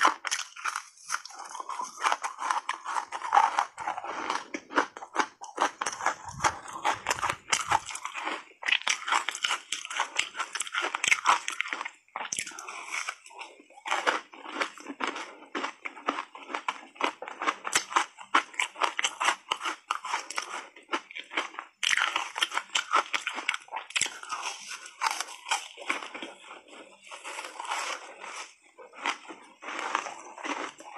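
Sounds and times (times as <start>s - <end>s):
ice crunching between teeth: 0.0s - 30.9s.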